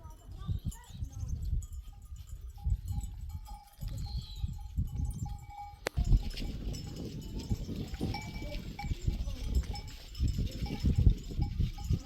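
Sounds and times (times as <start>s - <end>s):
animal bells clinking: 0.0s - 12.0s.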